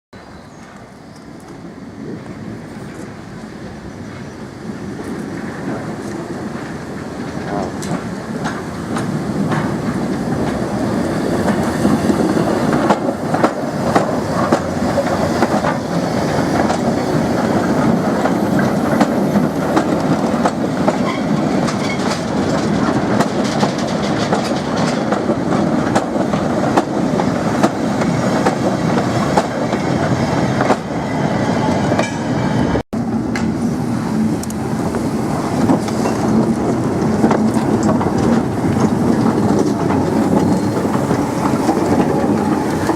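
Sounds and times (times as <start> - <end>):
train rumbling on rails: 0.2 - 42.9
wheels clacking over rail joints: 5.0 - 31.0, 33.0 - 42.9.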